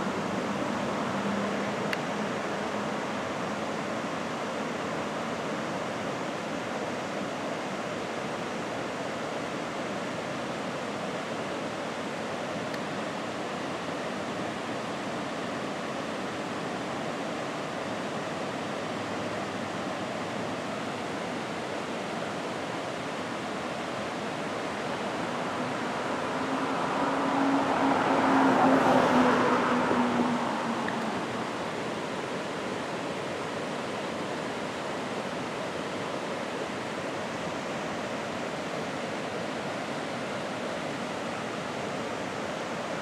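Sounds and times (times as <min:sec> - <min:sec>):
waterfall rushing water: 0:00.0 - 0:43.0.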